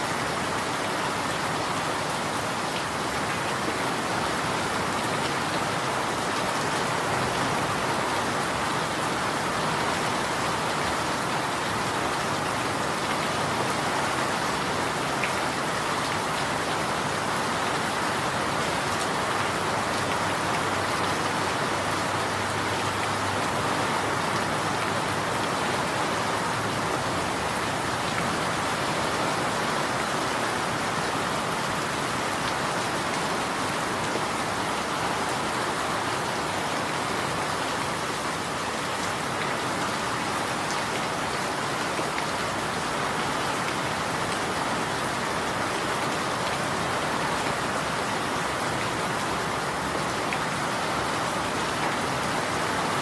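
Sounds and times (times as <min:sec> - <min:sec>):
rain pattering on surfaces: 0:00.0 - 0:53.0.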